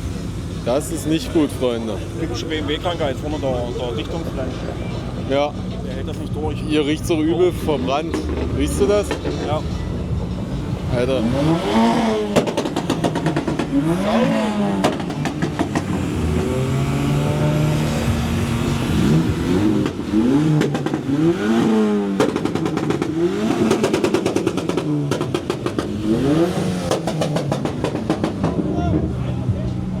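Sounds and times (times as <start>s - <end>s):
car engines revving: 0.0s - 30.0s
rapid engine crackling: 0.0s - 30.0s.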